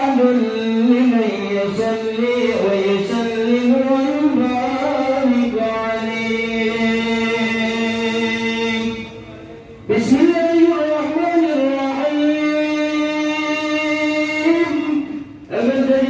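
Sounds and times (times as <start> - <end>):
man chanting a melody: 0.0 - 16.0.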